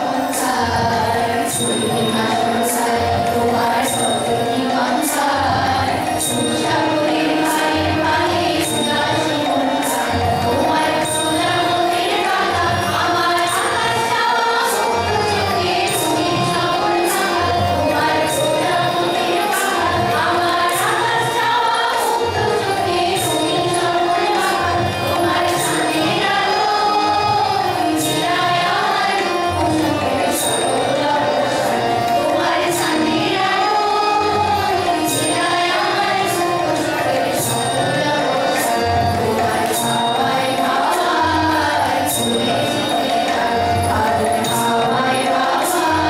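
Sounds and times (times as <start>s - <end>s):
group of voices singing: 0.0s - 46.0s
light jingling cymbal strikes: 0.0s - 46.0s.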